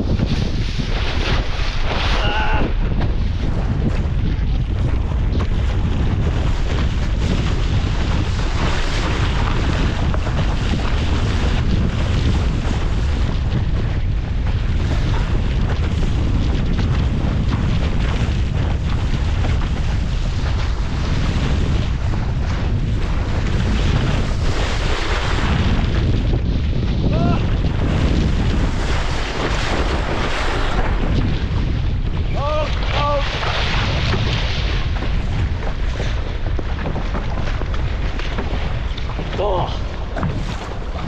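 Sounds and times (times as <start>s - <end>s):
water rushing along hull: 0.0s - 41.0s
wind buffeting microphone: 0.0s - 41.0s.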